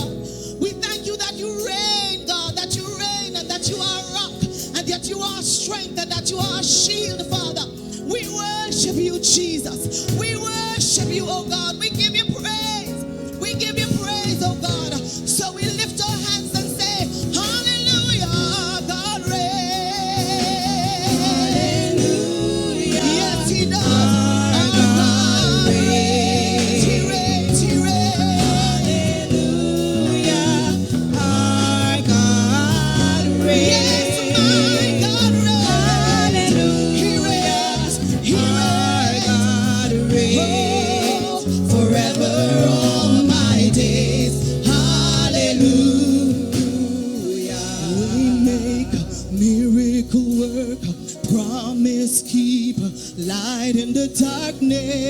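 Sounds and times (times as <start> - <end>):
band accompaniment with bass: 0.0 - 55.0
gospel singing with vibrato: 0.0 - 55.0.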